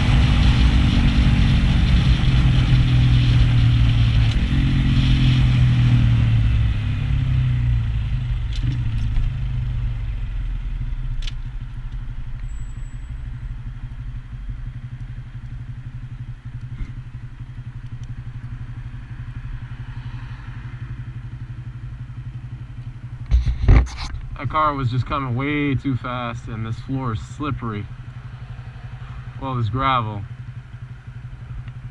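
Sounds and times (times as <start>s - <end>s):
motorbike engine idling: 1.3s - 31.9s.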